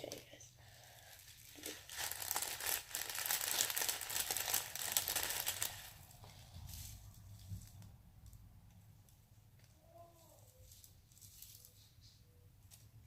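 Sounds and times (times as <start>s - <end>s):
material crinkling: 0.0s - 13.0s.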